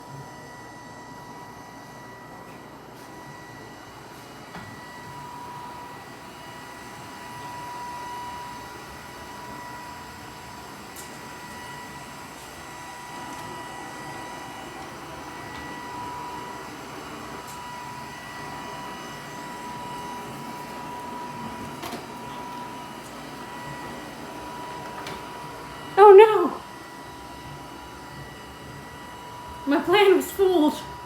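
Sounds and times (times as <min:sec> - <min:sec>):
robot vacuum whirring: 0:04.6 - 0:31.0.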